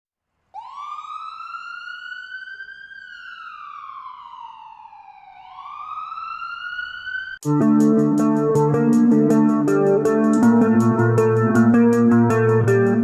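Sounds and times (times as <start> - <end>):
wailing siren: 0.6 - 13.0.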